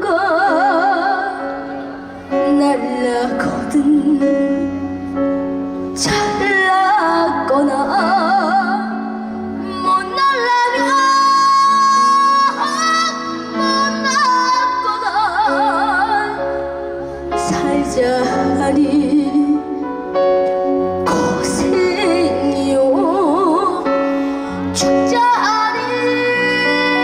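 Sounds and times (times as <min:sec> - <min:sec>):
woman singing with vibrato: 0:00.0 - 0:04.8, 0:06.0 - 0:19.8, 0:21.0 - 0:27.0.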